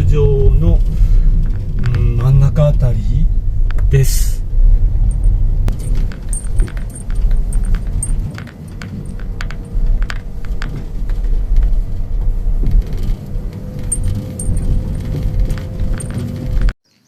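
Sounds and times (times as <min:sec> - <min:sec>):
car engine and tyres rumbling: 0:00.0 - 0:16.8
loose items rattling in car: 0:00.0 - 0:16.8.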